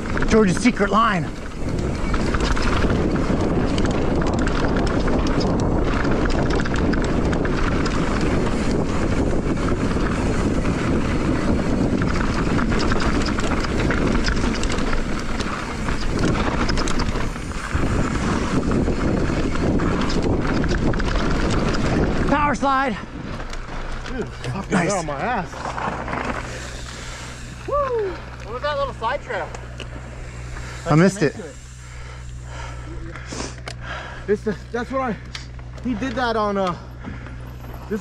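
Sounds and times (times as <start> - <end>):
wind rushing over microphone: 0.0 - 34.6
bike rattling over bumps: 0.0 - 38.0
tyres rolling on dirt: 0.0 - 38.0.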